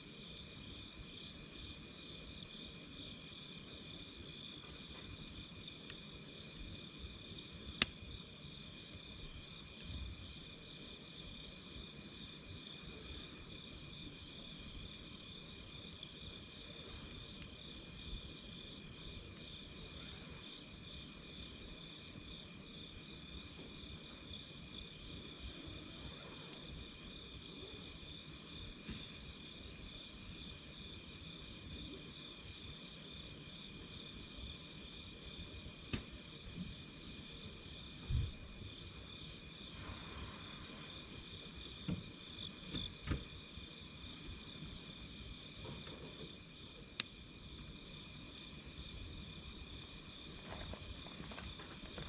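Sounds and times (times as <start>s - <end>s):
crickets trilling: 0.0s - 52.0s
wood fire crackling and popping: 0.0s - 52.0s.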